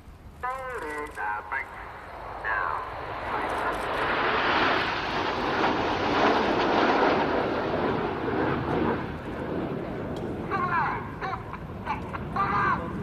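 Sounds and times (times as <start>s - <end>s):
jet roar overhead: 1.1s - 13.0s.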